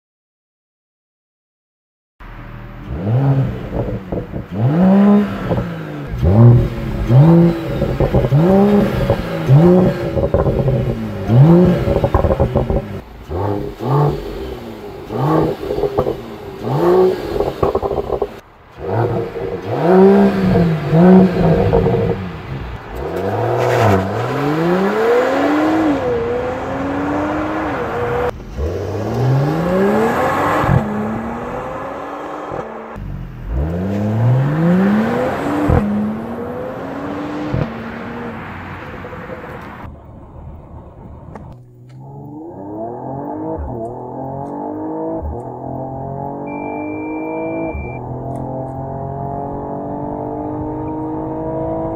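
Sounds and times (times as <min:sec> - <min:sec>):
car engine revving: 0:02.2 - 0:51.9
car accelerating hard: 0:02.4 - 0:51.9.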